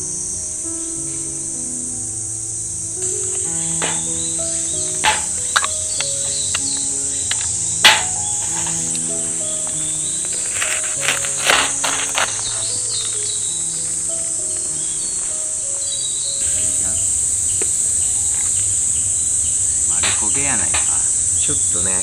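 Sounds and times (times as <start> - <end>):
insects droning: 0.0 - 22.0
soft background music: 0.0 - 22.0.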